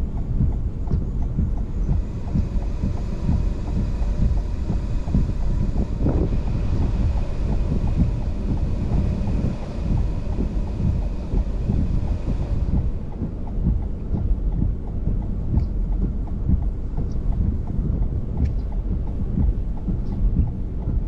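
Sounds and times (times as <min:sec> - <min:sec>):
faint regular ticking: 0:00.0 - 0:21.0
wind buffeting microphone: 0:00.0 - 0:21.0.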